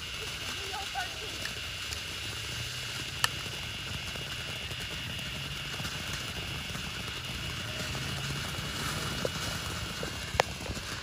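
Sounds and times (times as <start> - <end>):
firework fountain hissing: 0.0 - 11.0.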